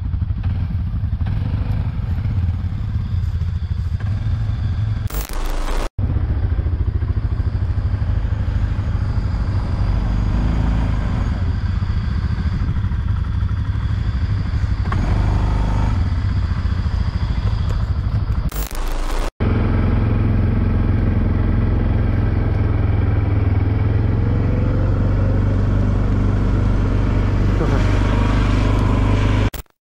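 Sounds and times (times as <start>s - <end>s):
quad bike engines driving through mud: 0.0s - 13.0s, 13.7s - 29.7s.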